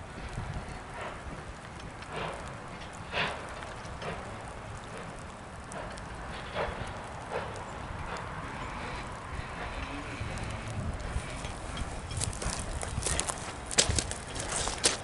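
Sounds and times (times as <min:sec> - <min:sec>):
steady steam hiss: 0:00.0 - 0:15.0
steam locomotive exhaust chuffing: 0:00.0 - 0:15.0.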